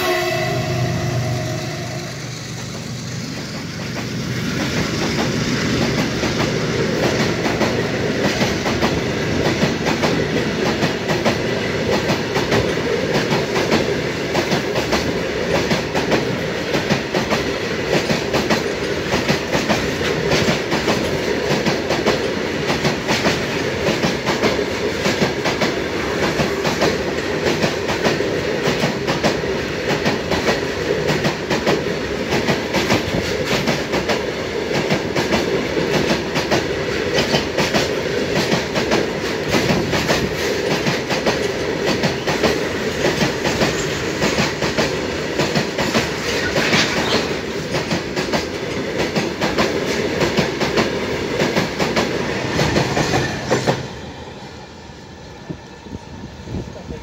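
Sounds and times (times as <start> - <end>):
freight train wheels clattering: 2.2 - 54.0.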